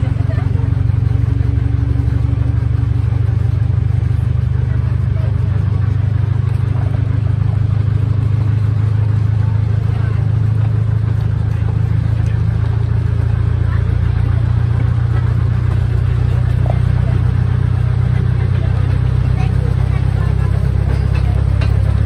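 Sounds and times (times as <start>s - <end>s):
locomotive engine drone: 0.0s - 22.0s.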